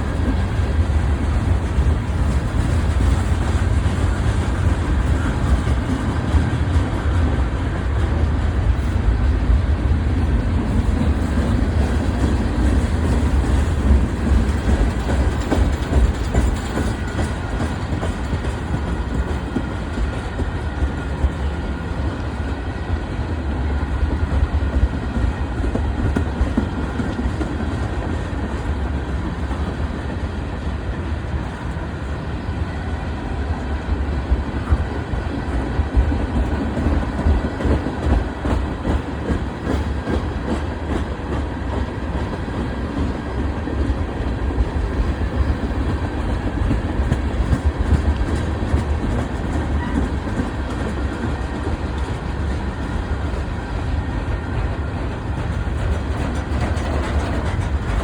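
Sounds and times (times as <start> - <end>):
freight train rumbling on rails: 0.0 - 58.0.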